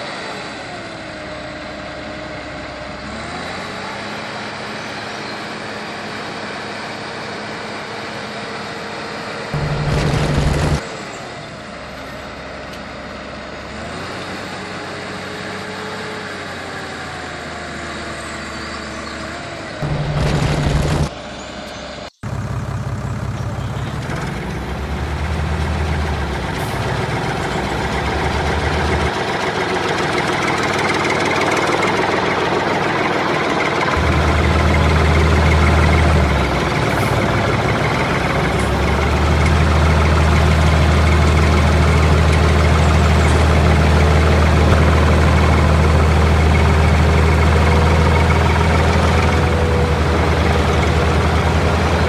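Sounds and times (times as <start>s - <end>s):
heavy vehicle engine running: 0.0s - 52.0s.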